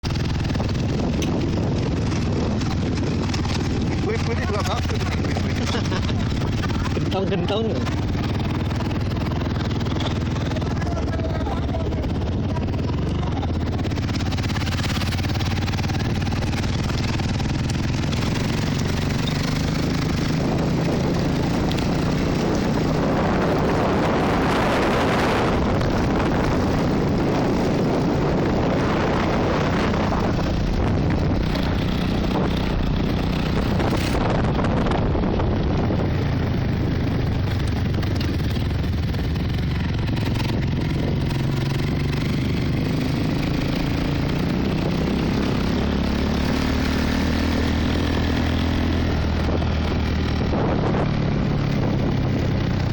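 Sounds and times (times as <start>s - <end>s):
continuous rushing noise: 0.0s - 52.9s
motorcycle engine running: 0.0s - 52.9s.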